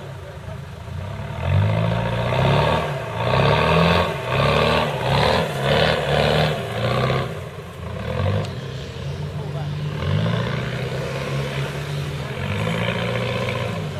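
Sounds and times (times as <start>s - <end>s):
off-road engine revving hard: 0.0s - 13.9s.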